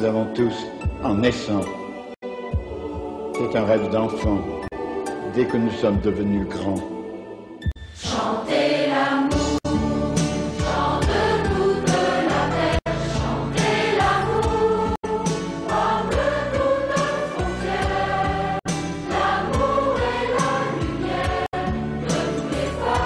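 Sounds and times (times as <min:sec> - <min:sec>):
choir singing with music: 0:00.0 - 0:23.0.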